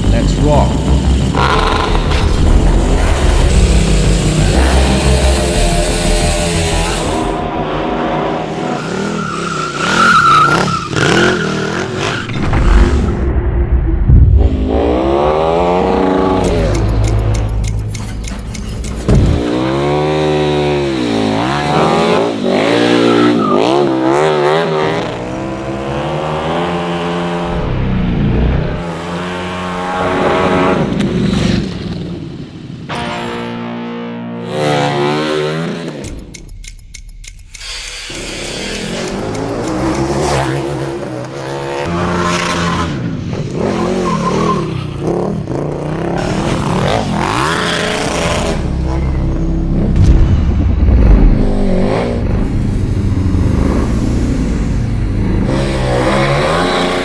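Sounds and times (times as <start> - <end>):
motorcycle engine revving: 0.0 - 12.4, 14.2 - 32.2, 37.8 - 57.0.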